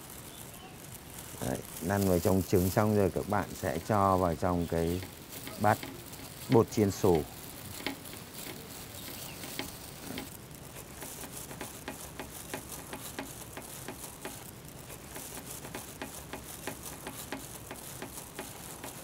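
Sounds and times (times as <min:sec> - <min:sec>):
oil hissing and crackling in pan: 0:00.0 - 0:19.0.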